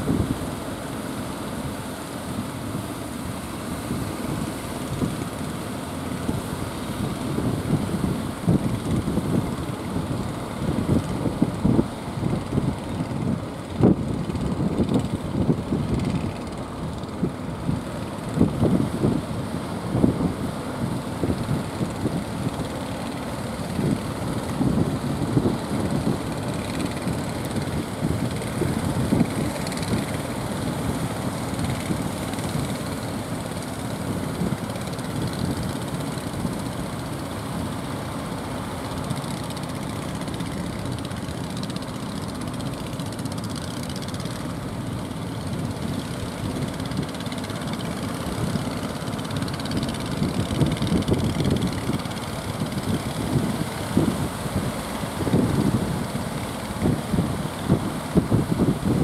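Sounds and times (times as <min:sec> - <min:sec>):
gusty wind buffeting microphone: 0:00.0 - 0:59.0
surf rushing: 0:00.0 - 0:59.0.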